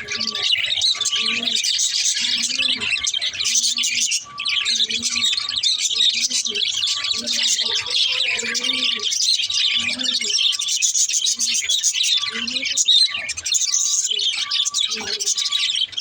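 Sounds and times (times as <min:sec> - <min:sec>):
small birds chirping and twittering: 0:00.0 - 0:16.0.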